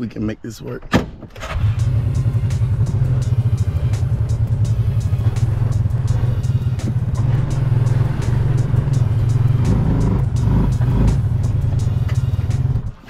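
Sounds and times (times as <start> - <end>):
utility vehicle engine running: 1.4 - 13.0.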